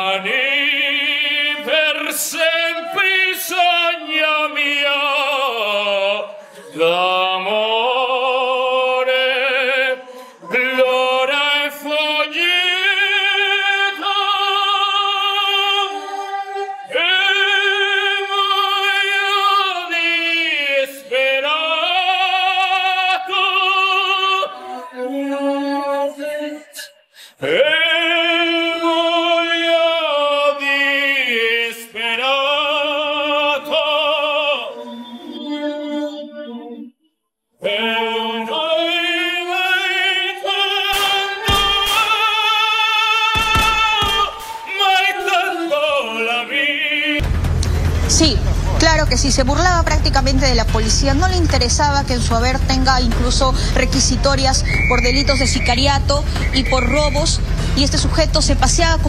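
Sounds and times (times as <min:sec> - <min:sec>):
operatic singing with vibrato: 0:00.0 - 0:37.0, 0:37.6 - 0:59.0.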